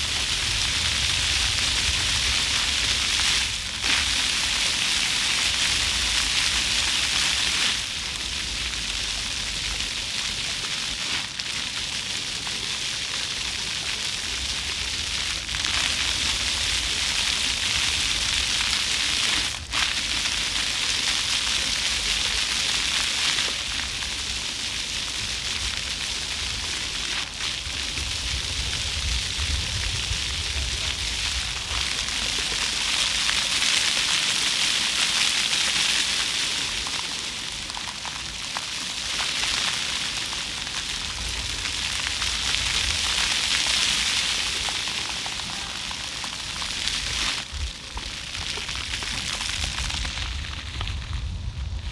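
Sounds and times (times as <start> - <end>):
fountain jets splashing on paving: 0.0 - 51.9.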